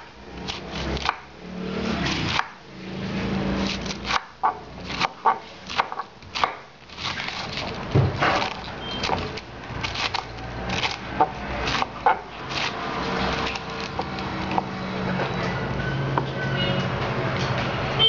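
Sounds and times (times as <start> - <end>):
knife slicing cabbage: 0.0 - 14.7.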